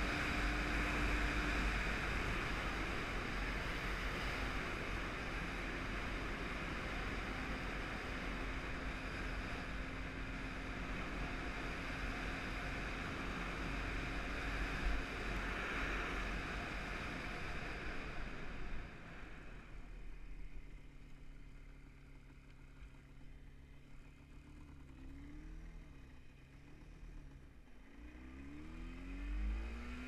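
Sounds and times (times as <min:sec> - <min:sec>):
faint motorcycle engine: 0:00.0 - 0:30.0.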